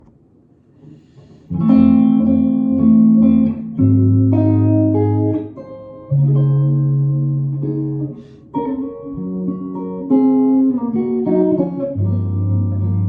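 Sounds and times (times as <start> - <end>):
guitar playing jazz chords: 1.3 - 13.0.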